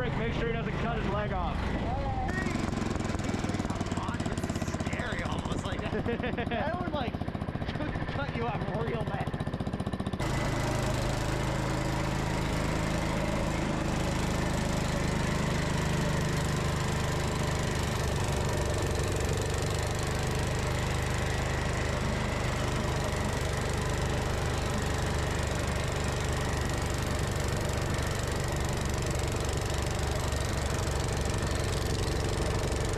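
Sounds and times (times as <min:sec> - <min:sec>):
tractor engine running under load: 0:00.0 - 0:32.9.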